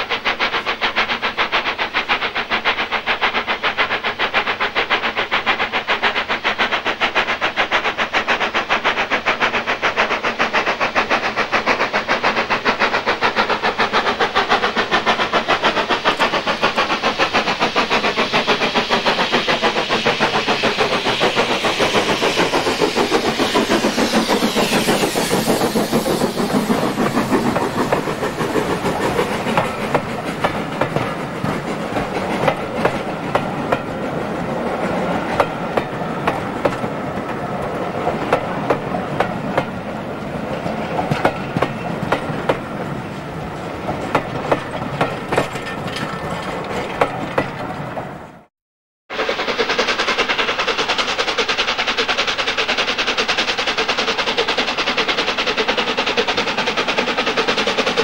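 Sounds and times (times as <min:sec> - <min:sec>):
train wheels clicking over rail joints: 0:00.0 - 0:48.3, 0:49.1 - 0:58.0
steam locomotive exhaust beat: 0:00.0 - 0:48.5, 0:49.1 - 0:58.0.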